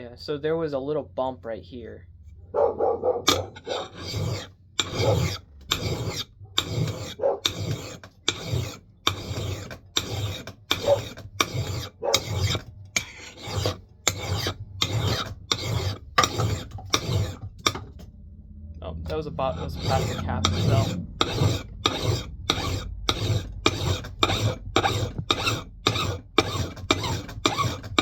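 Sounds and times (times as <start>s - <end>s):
file rasping on steel: 3.3s - 18.0s, 19.1s - 28.0s.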